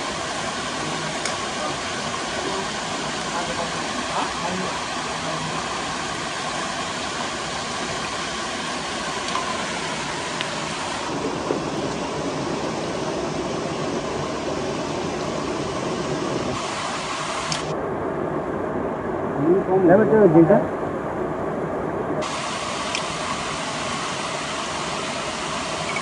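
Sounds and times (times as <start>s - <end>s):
waterfall rushing into pool: 0.0s - 17.8s, 22.2s - 26.0s.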